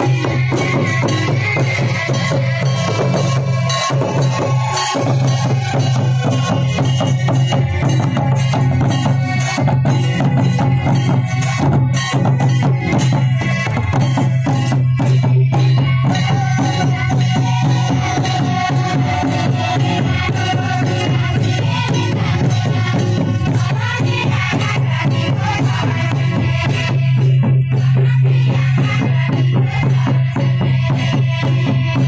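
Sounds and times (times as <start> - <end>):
hand drums and kettle drum rhythm: 0.0 - 32.0.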